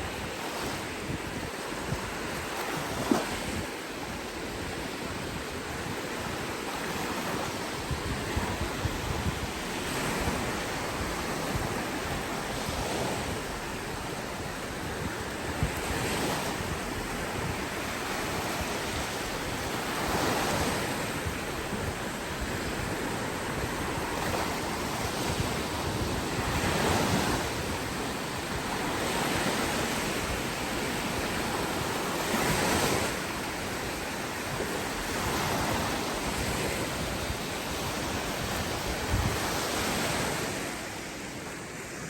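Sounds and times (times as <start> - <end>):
sea waves breaking on beach: 0.0 - 42.0
wind rumbling on microphone: 0.0 - 42.0.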